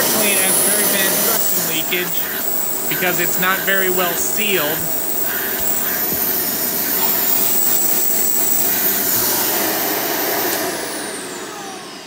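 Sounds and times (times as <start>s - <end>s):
vacuum cleaner rushing air: 0.0s - 12.0s
vacuum motor winding down: 0.0s - 12.0s.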